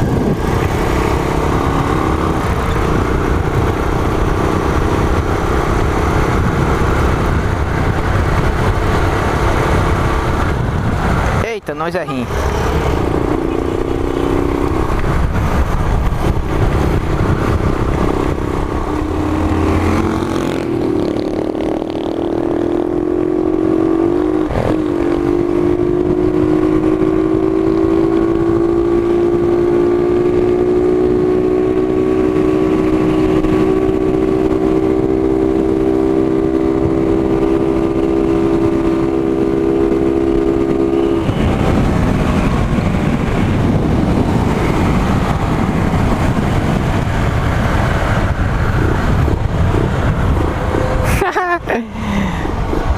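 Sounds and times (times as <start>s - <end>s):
motorcycle engine running: 0.0s - 11.5s, 12.1s - 52.9s
wind rumbling on microphone: 0.0s - 52.9s.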